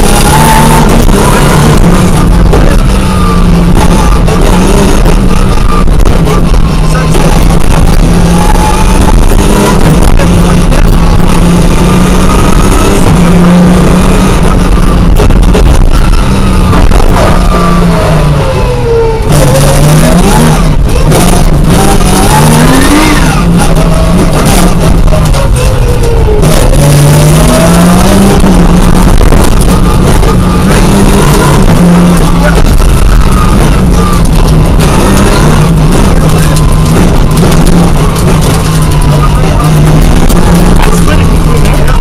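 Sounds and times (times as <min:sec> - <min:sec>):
rally car engine revving hard: 0:00.0 - 0:42.0.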